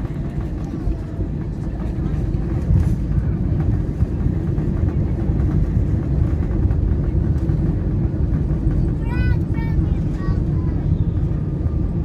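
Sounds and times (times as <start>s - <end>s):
airplane engine and airflow rumble: 0.0s - 12.0s.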